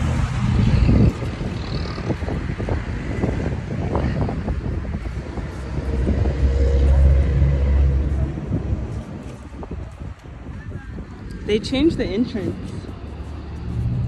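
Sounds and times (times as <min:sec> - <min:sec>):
traffic noise: 0:00.0 - 0:14.0
vehicle engine humming: 0:00.0 - 0:14.0.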